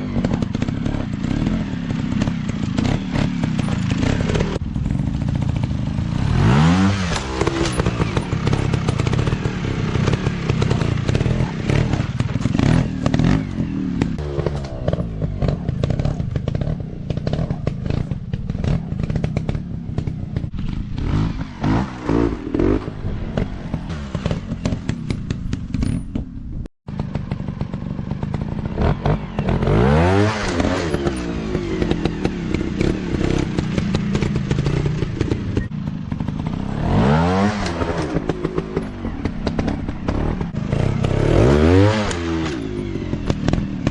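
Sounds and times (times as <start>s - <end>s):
dirt bike engines revving: 0.0s - 26.2s, 27.0s - 43.9s.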